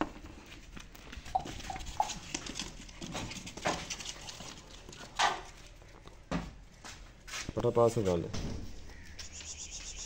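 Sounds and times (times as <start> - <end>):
rustling: 0.0 - 9.9.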